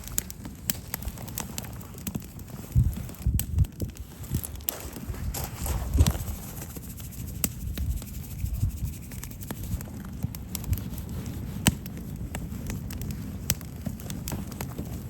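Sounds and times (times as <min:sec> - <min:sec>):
wood fire crackling and popping: 0:00.0 - 0:15.0
low steady rumble: 0:00.9 - 0:13.9.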